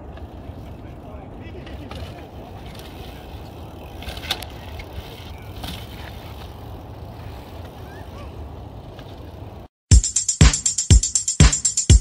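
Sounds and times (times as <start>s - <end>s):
bike clacking: 0.0s - 9.7s
bike tyres rumbling and wind: 0.0s - 9.7s.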